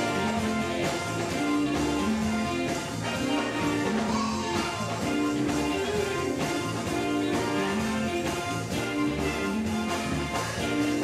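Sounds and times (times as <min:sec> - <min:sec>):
live gospel band music: 0:00.0 - 0:11.0
low bass notes: 0:00.0 - 0:11.0.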